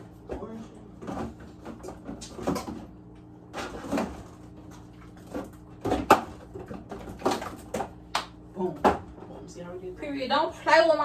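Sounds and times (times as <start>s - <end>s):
groceries knocking and clattering: 0.0s - 9.5s.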